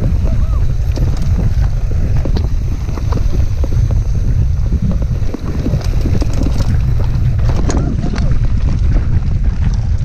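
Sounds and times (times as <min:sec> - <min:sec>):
bike rattling clicks and knocks: 0:00.0 - 0:10.0
tyres rumbling on dirt: 0:00.0 - 0:10.0
wind buffeting microphone: 0:00.0 - 0:10.0.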